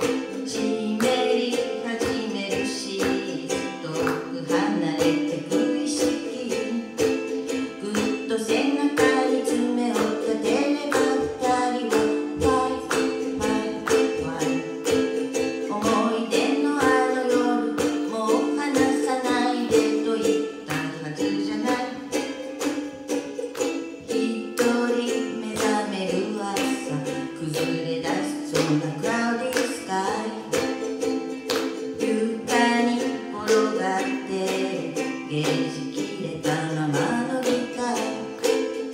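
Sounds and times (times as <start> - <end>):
woman singing: 0.0 - 22.8, 24.0 - 38.9
strummed ukulele: 0.0 - 38.9.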